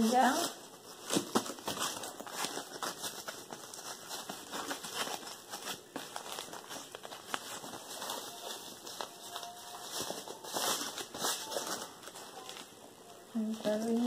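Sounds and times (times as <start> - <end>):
packing wrap crinkling: 0.0 - 14.0.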